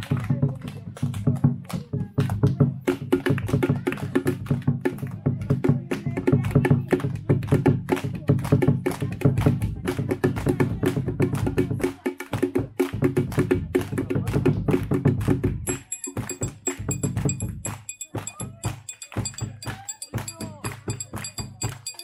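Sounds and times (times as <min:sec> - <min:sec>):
hand clapping: 0:00.0 - 0:10.1, 0:12.2 - 0:22.0
hand drums: 0:02.2 - 0:22.0.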